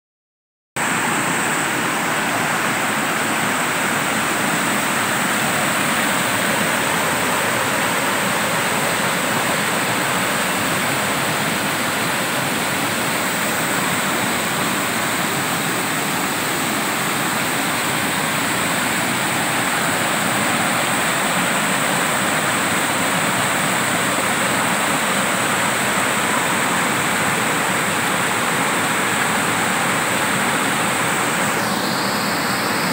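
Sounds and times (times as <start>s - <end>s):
water rushing over rocks: 0.8s - 32.9s.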